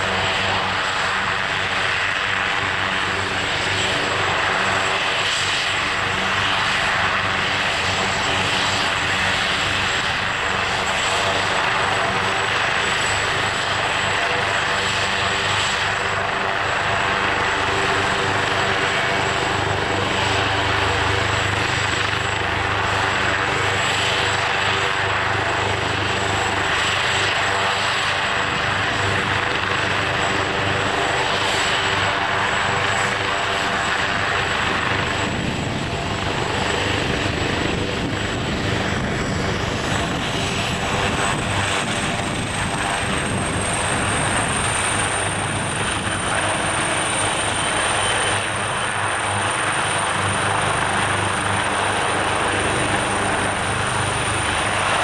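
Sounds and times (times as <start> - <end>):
helicopter rotor and engine noise: 0.0 - 55.0
helicopter turbine whine: 0.0 - 55.0.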